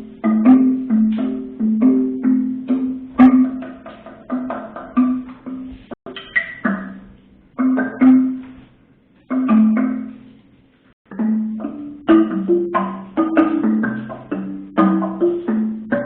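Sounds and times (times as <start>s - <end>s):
pitched percussion notes: 0.0s - 8.7s, 11.1s - 16.0s.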